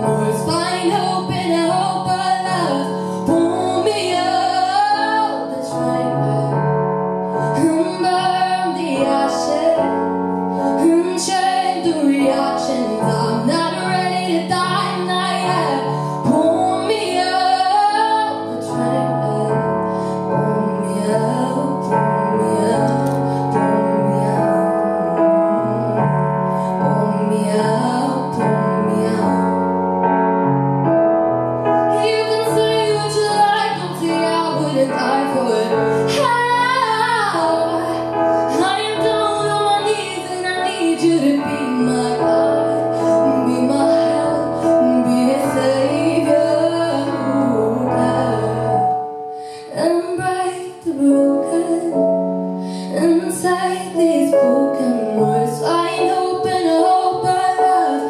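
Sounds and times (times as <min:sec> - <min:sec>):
girl singing into microphone: 0:00.0 - 0:06.7, 0:07.3 - 0:29.8, 0:31.8 - 0:58.0
sustained keyboard chords: 0:00.0 - 0:58.0.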